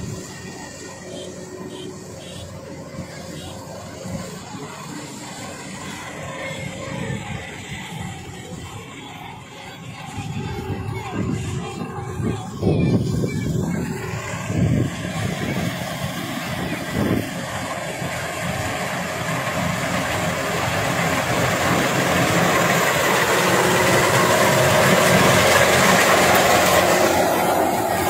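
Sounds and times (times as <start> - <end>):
combine harvester engine and machinery: 0.0 - 28.0.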